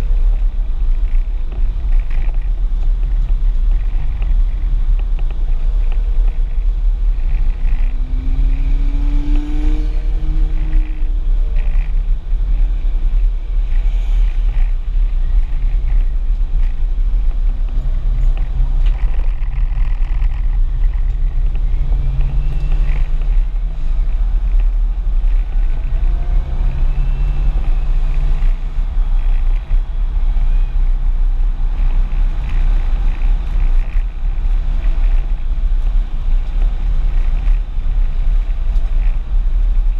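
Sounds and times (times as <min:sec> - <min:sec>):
car engine accelerating: 0:00.0 - 0:39.9
road and wind noise in car: 0:00.0 - 0:39.9.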